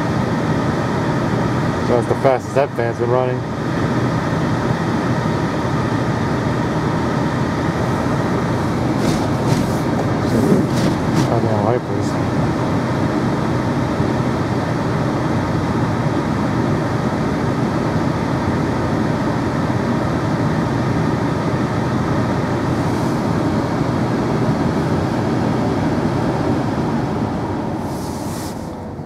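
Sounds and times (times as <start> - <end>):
blower fan rushing air: 0.0 - 29.0.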